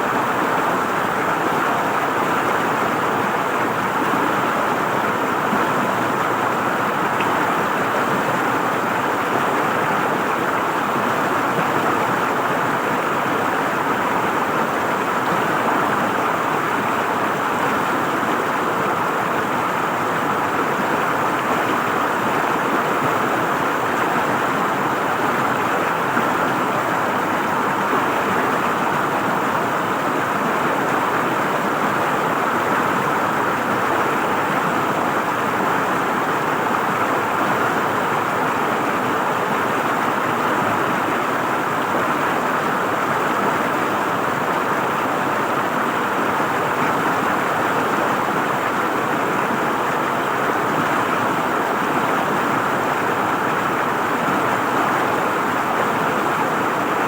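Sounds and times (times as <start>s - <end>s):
river water gurgling over rocks: 0.0s - 57.0s.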